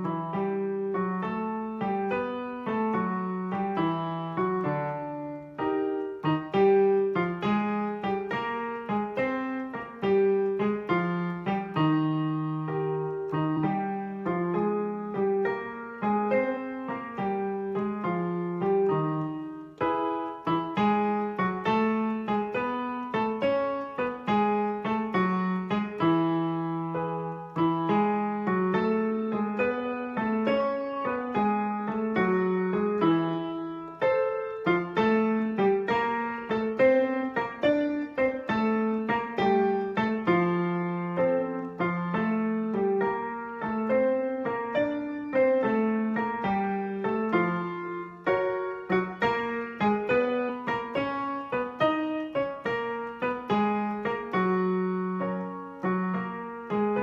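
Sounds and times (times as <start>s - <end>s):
piano playing leaping notes: 0.0s - 57.0s.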